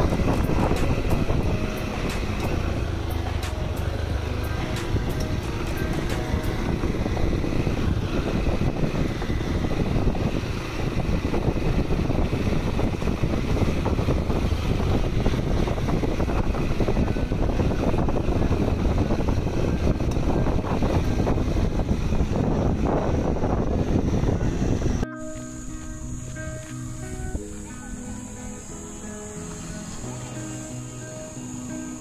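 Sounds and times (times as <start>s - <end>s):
motorcycle engine running: 0.0s - 32.0s
wind noise on microphone: 0.0s - 32.0s.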